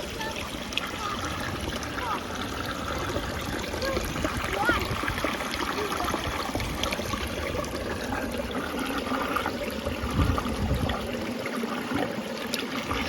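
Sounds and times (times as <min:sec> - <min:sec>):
water flowing: 0:00.0 - 0:13.0.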